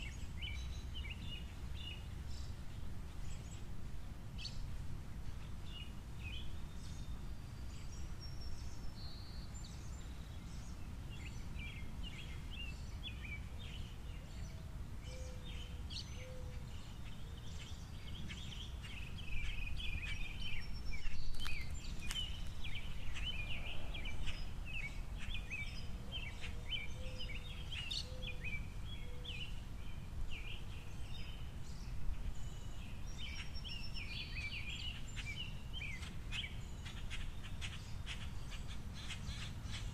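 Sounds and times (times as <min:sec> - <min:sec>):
small birds chirping: 0:04.4 - 0:39.9.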